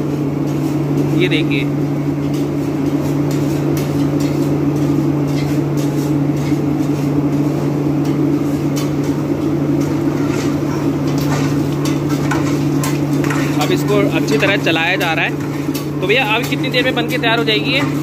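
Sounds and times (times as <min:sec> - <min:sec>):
furnace burners humming: 0:00.0 - 0:18.0.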